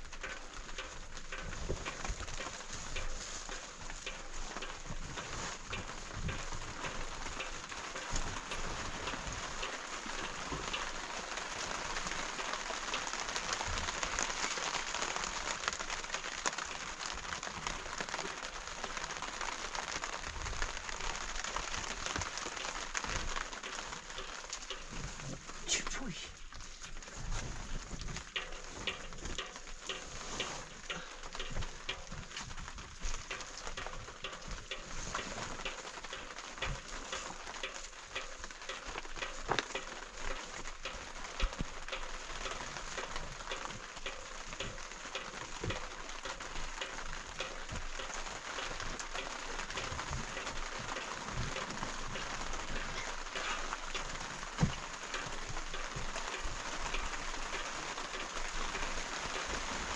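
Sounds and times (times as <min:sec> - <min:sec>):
drops ticking on hard surface: 0:00.0 - 0:59.9
steady rain: 0:00.0 - 0:59.9.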